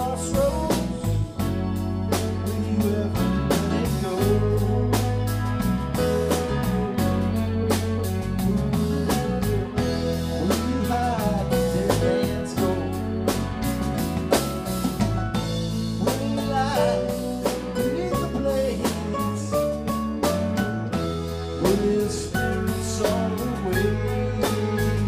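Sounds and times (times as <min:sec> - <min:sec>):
live rock band playing: 0:00.0 - 0:25.0
melody line of bending notes: 0:00.0 - 0:25.0.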